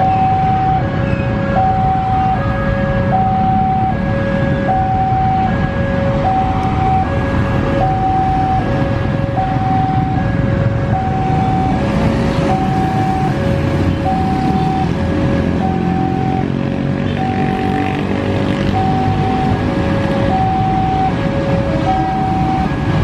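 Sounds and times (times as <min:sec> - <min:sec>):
level crossing two-tone alarm: 0:00.0 - 0:16.6, 0:18.7 - 0:23.0
motorcycle and car traffic: 0:00.0 - 0:23.0.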